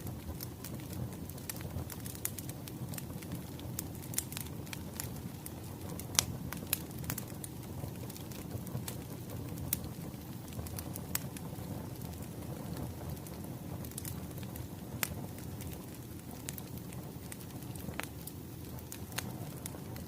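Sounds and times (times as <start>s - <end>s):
low rumble of burning logs: 0.0s - 20.0s
wood fire crackling and popping: 0.0s - 20.0s.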